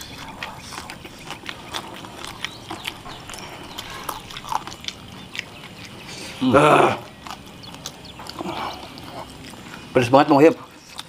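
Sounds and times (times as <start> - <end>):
chewing and lip-smacking: 0.0 - 11.0.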